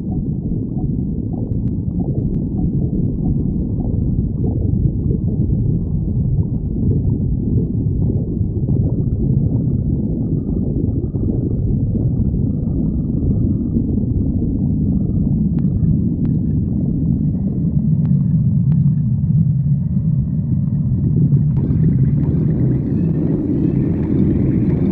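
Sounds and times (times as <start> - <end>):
stomach growling: 0.0 - 24.9.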